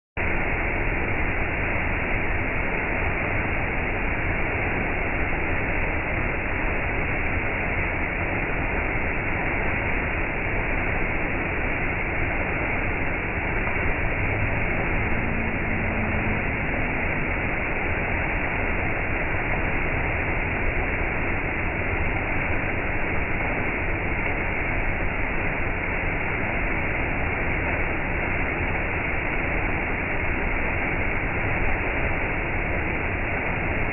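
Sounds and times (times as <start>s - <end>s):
waterfall rushing into pool: 0.2s - 33.9s.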